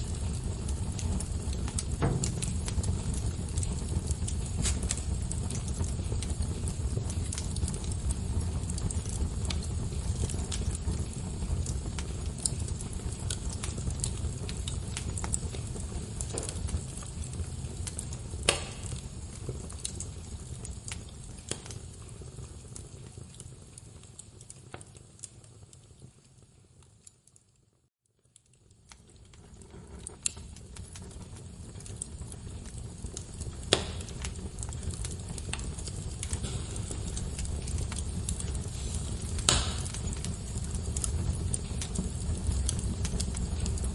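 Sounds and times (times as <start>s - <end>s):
burning wood popping: 0.0s - 26.2s, 28.2s - 43.9s
fire rumbling: 0.0s - 27.3s, 28.4s - 43.9s.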